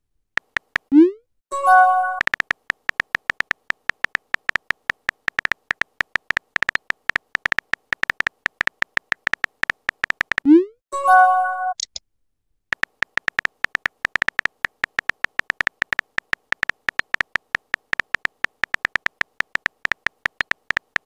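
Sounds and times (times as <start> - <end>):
phone keyboard typing clicks: 0.4 - 0.9, 2.0 - 10.5, 12.7 - 21.0.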